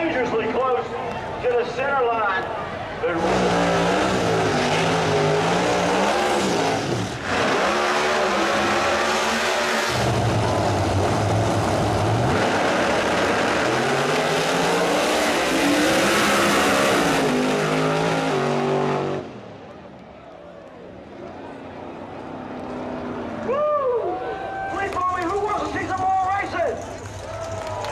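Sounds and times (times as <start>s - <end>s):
race car engines revving: 0.1s - 27.9s.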